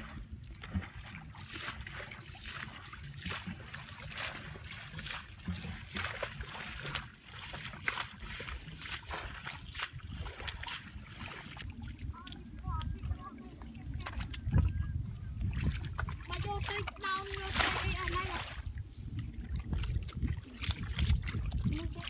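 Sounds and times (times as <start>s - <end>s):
splashing in shallow water: 0.0s - 22.0s
steady low rumble: 0.0s - 22.0s.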